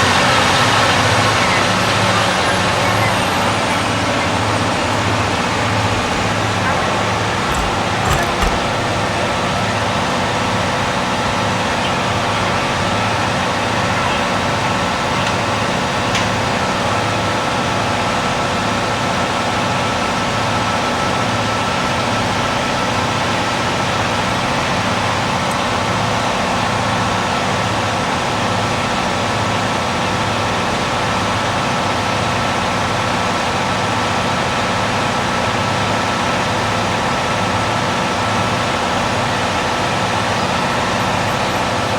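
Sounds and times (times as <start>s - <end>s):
diesel railcar engines idling: 0.0s - 41.9s.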